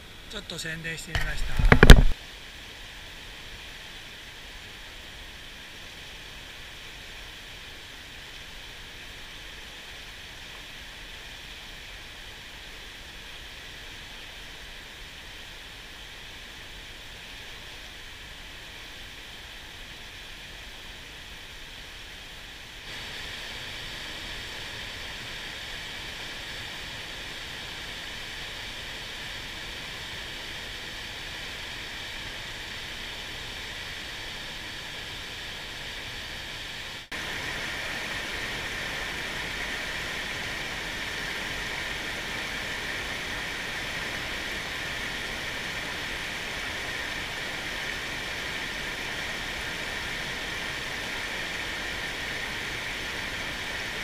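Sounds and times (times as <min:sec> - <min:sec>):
stream rapids rushing: 0:00.0 - 0:54.0.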